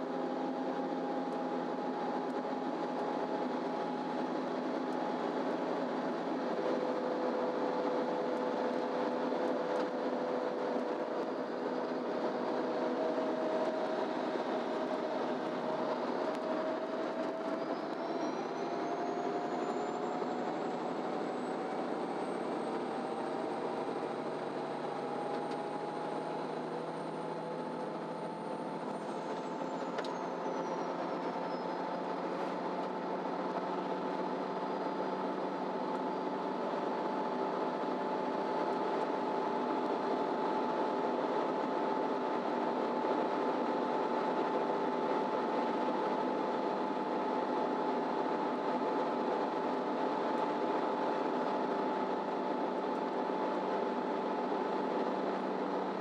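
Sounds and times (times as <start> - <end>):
bus engine and drivetrain: 0.0 - 56.0
road noise: 0.0 - 56.0.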